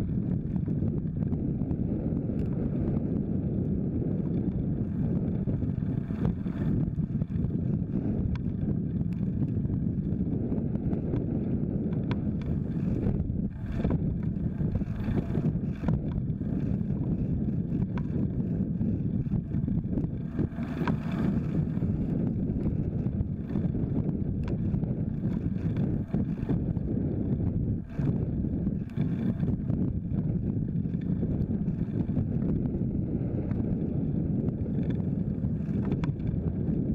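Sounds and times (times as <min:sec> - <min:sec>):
road and tyre noise: 0:00.0 - 0:36.9
wind rumble on microphone: 0:00.0 - 0:36.9.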